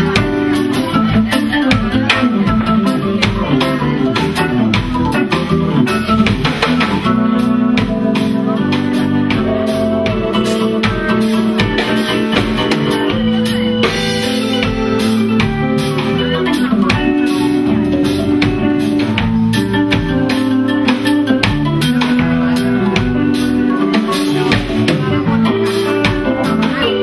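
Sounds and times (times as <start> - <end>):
drum kit beat: 0.0 - 27.0
electric guitar: 0.0 - 27.0
organ-toned keyboard chords: 0.0 - 27.0.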